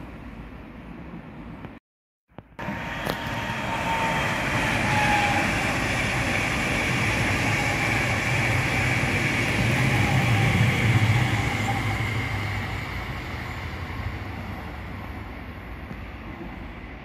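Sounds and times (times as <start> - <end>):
train wheels rushing on rail: 2.4 - 17.0.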